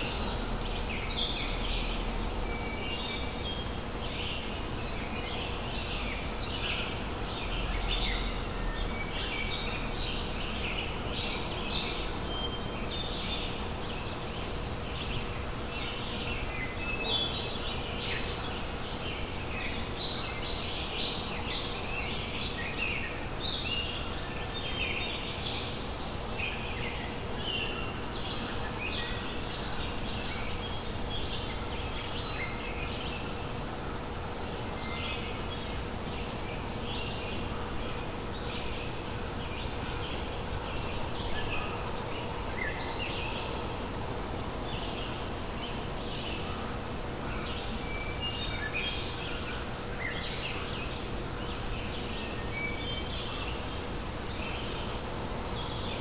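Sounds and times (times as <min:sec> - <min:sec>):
faint steady hum: 0:00.0 - 0:56.0
songbirds chirping and trilling: 0:00.0 - 0:56.0.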